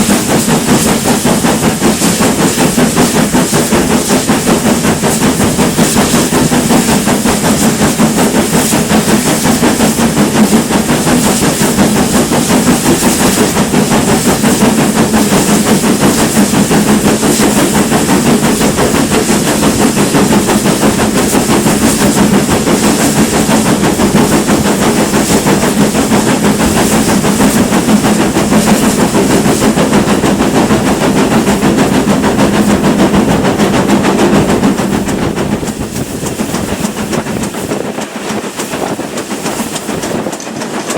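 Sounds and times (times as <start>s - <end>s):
steam locomotive exhaust beating: 0.0s - 40.9s
train rumble: 0.0s - 40.9s.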